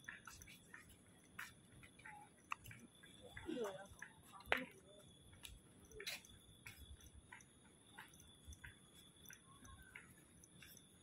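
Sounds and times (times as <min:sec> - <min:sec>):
footsteps on paved path: 0:00.0 - 0:11.0.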